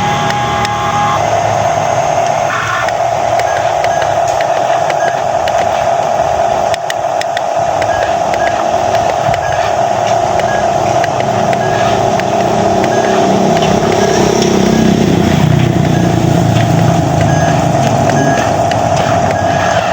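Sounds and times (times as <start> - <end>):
electric motor whining: 0.0 - 19.9
low hum: 0.0 - 19.9.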